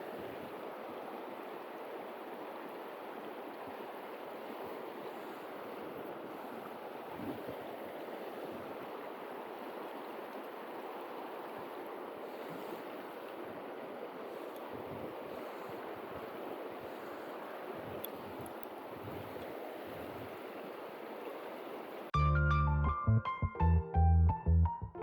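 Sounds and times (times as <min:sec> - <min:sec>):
flowing river water: 0:00.0 - 0:22.1.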